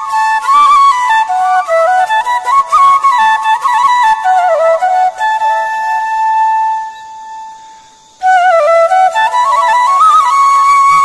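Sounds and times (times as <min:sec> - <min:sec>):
flute melody: 0:00.0 - 0:11.0.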